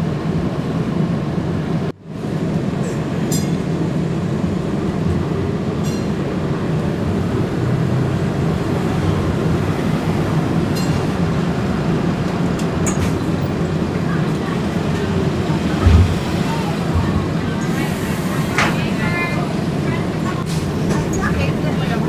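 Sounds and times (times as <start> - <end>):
streetcar rumble on track: 0.0 - 22.0.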